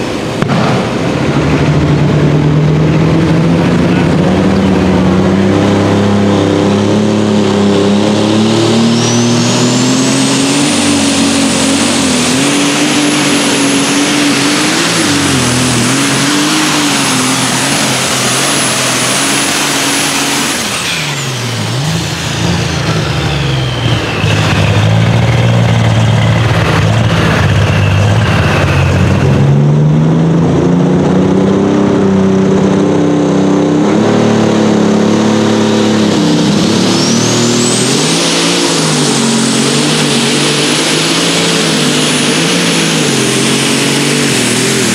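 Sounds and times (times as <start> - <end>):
diesel engine at full power: 0.0 - 44.9
engines idling and revving: 0.0 - 44.9
high turbo whine: 0.0 - 44.9.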